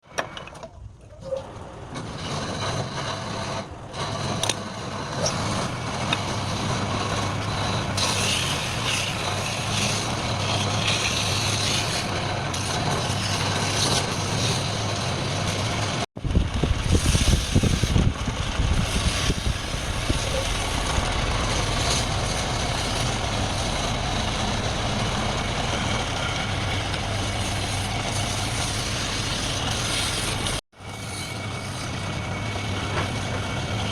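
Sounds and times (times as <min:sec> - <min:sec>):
turning tool cutting wood: 0:02.0 - 0:33.9
wood lathe motor hum: 0:02.7 - 0:33.9.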